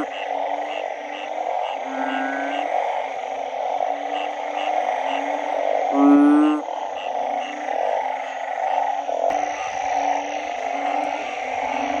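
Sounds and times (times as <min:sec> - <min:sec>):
bullfrog low call: 0:00.0 - 0:12.0
chorus of frogs and insects: 0:00.0 - 0:12.0.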